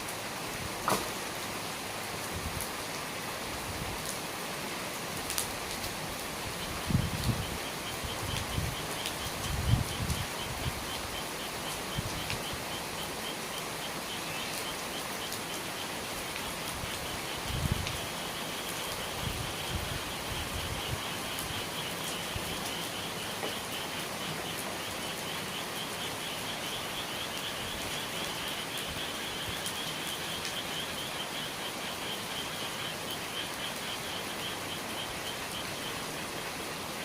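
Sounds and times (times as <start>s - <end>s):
rain dripping from eaves: 0.0s - 37.0s.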